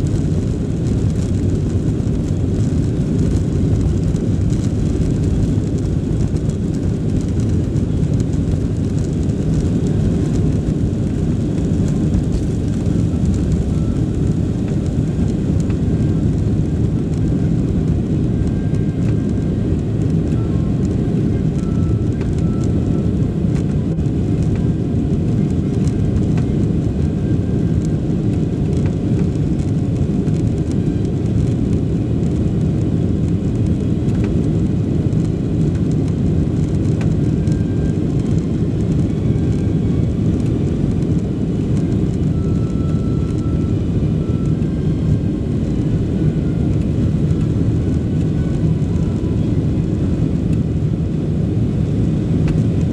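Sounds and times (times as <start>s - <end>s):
jet engines rumbling in cabin: 0.0s - 52.9s.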